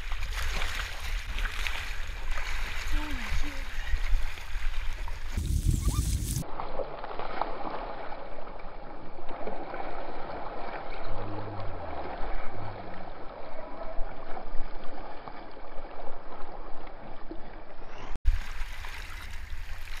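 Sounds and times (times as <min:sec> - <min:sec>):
choppy water sloshing: 0:00.0 - 0:20.0.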